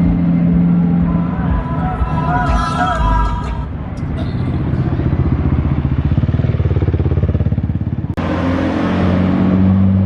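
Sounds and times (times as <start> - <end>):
vehicle engine with pulsing exhaust: 0.0 - 10.0.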